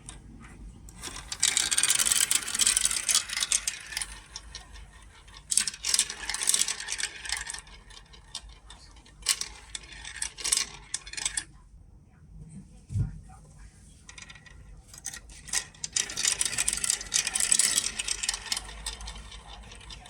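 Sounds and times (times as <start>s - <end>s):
marbles rolling down a marble run: 0.9s - 11.5s, 14.0s - 20.0s.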